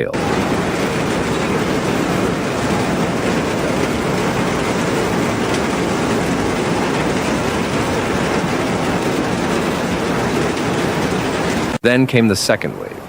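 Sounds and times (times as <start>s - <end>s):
heavy water rushing: 0.0s - 11.8s.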